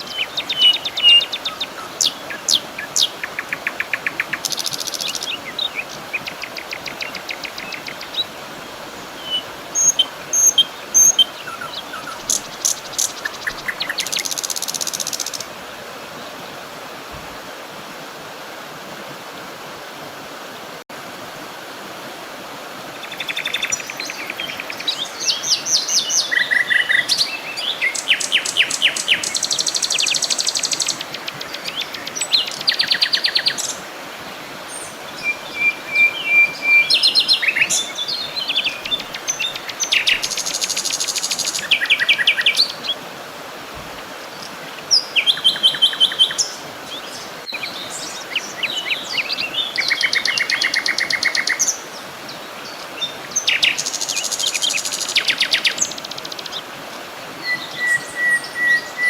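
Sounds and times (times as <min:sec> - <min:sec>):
birds singing and chirping: 0:00.0 - 0:15.5, 0:23.0 - 0:33.8, 0:34.7 - 0:43.0, 0:44.4 - 0:56.7, 0:57.4 - 0:59.0
steady background hiss: 0:00.0 - 0:59.0.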